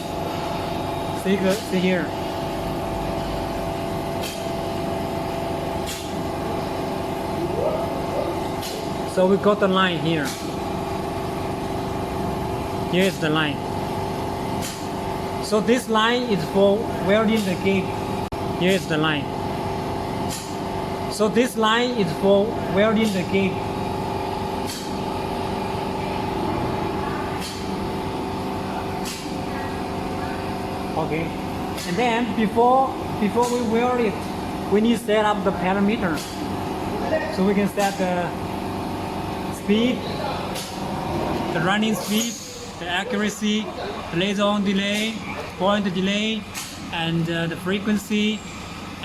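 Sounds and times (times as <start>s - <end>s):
laser welding machine hum: 0.0s - 49.0s.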